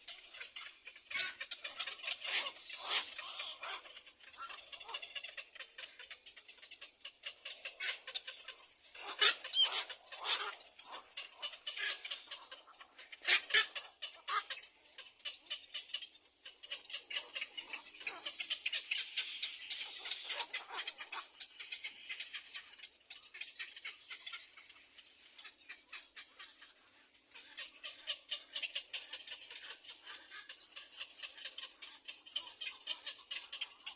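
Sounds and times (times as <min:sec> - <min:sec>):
squeaky bird calls: 0:00.0 - 0:33.9
nestling birds chirping: 0:00.1 - 0:33.9.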